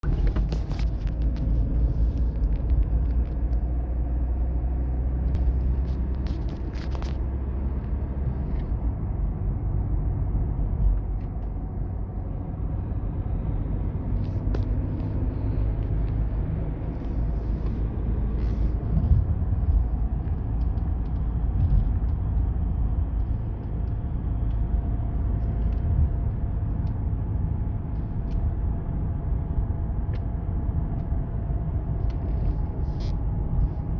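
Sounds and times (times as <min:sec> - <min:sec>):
car road rumble: 0:00.0 - 0:33.9.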